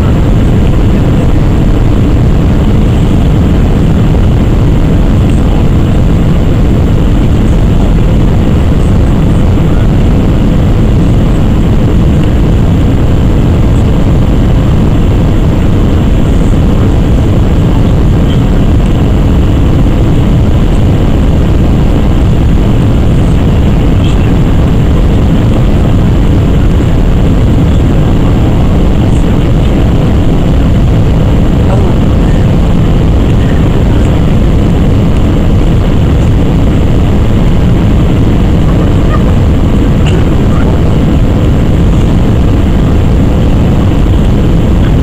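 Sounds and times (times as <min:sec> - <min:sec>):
airplane cabin engine rumble: 0:00.0 - 0:45.0.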